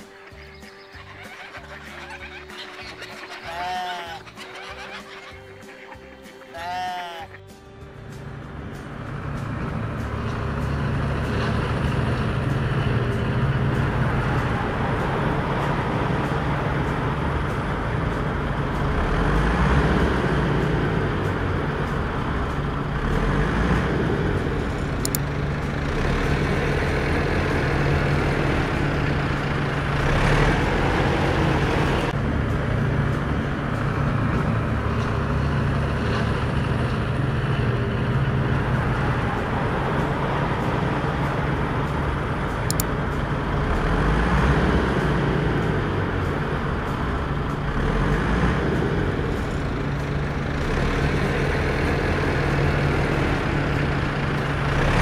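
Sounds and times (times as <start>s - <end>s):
tractor engine humming: 0.0s - 55.0s.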